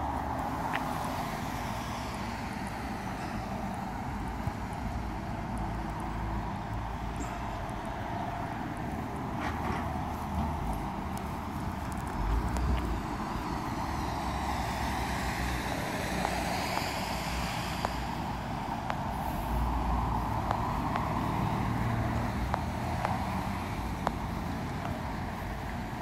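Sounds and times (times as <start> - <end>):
footsteps on asphalt: 0.0 - 26.0
road vehicles passing: 0.0 - 26.0.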